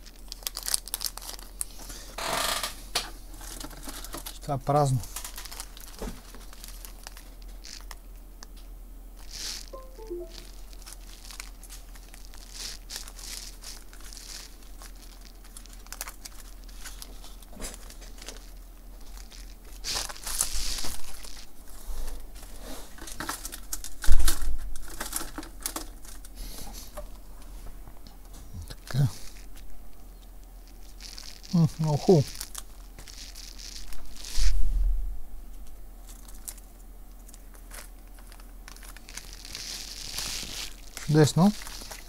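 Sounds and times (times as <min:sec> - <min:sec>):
packaging crinkling: 0:00.0 - 0:02.7, 0:03.3 - 0:27.2, 0:28.7 - 0:34.6, 0:35.6 - 0:42.0.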